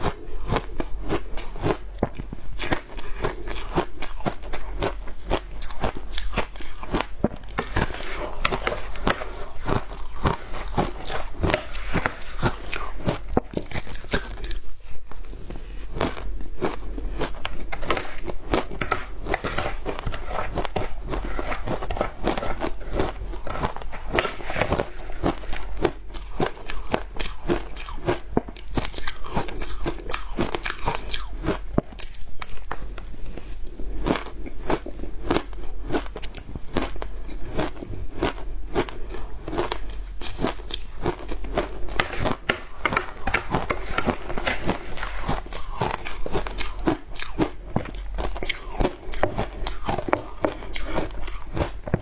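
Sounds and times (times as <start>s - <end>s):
ice crunching while chewed: 0.0s - 52.0s.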